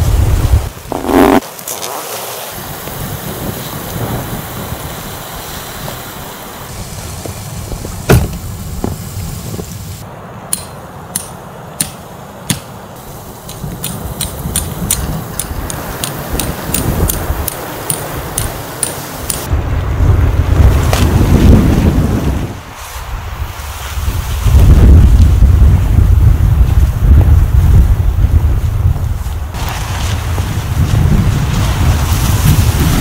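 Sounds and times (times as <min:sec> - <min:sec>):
wind rushing over microphone: 0:00.0 - 0:01.4, 0:02.5 - 0:10.5, 0:13.0 - 0:33.0.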